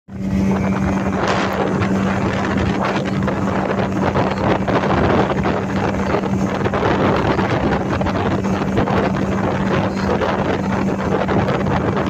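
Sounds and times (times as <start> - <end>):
boat engine humming: 0.1 - 12.0
rushing water: 0.1 - 12.0
wind buffeting microphone: 0.1 - 12.0.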